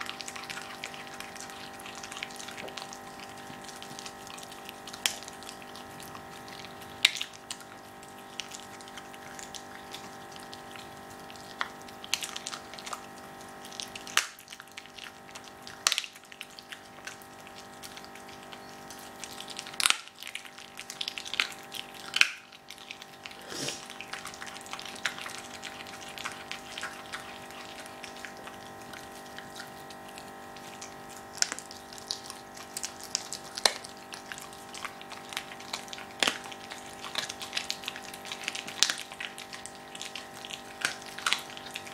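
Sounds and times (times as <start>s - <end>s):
dog chewing meat and bones: 0.0s - 41.9s.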